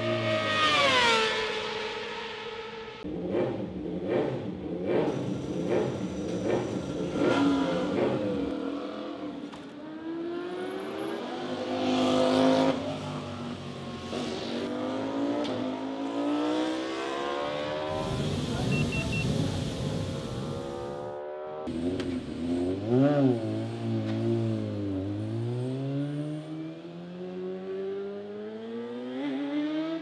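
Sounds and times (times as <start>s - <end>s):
motorcycle engine revving: 3.0s - 30.0s.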